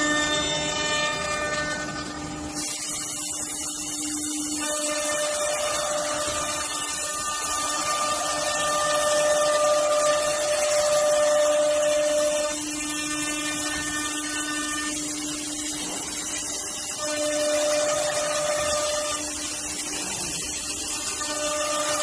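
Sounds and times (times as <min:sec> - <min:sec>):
router spindle whine and cutting: 0:00.0 - 0:22.0.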